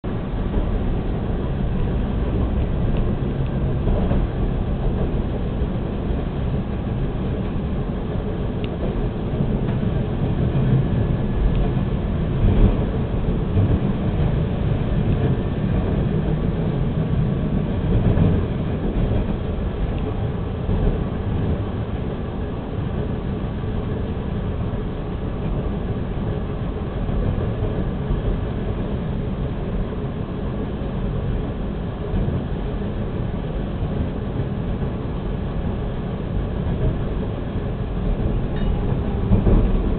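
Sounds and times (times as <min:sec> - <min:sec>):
subway train running: 0:00.0 - 0:39.9.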